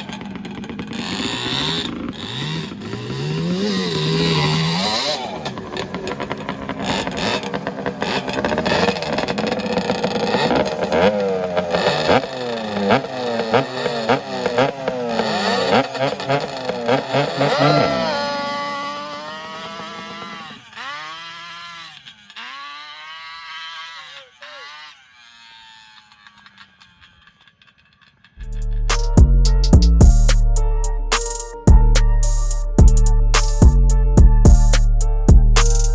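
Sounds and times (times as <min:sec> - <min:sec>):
atv engine revving: 0:00.0 - 0:35.9.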